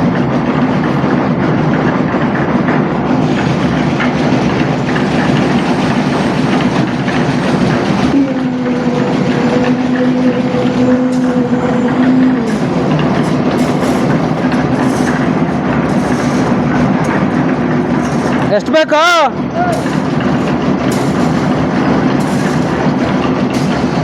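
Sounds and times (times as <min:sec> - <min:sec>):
construction machinery rumbling: 0:00.0 - 0:24.0
steady tone: 0:03.4 - 0:24.0.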